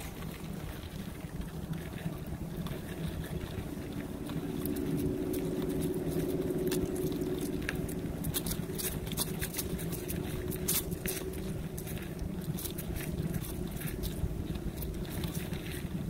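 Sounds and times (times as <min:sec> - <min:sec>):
bicycle tyre and wind rumble: 0:00.0 - 0:16.0
hum: 0:00.0 - 0:16.0
tyres crackling over dry leaves: 0:00.0 - 0:16.0.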